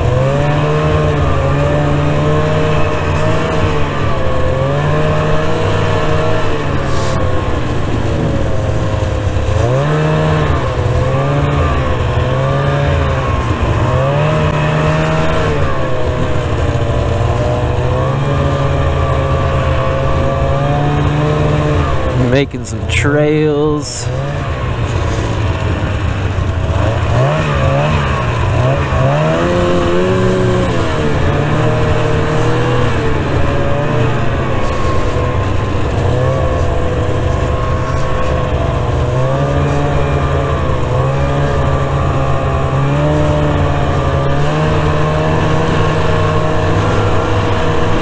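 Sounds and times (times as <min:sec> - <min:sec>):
snowmobile engine revving: 0:00.0 - 0:48.0.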